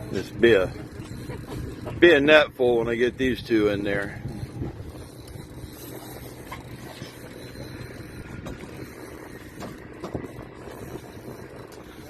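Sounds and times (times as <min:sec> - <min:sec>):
boat engine humming: 0:00.0 - 0:12.0
water noise: 0:00.0 - 0:12.0
wind: 0:00.0 - 0:12.0.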